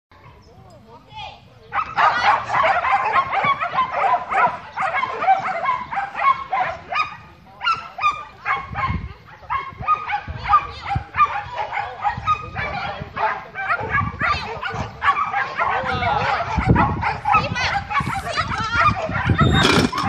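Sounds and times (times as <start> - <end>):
dog barking: 1.7 - 20.0.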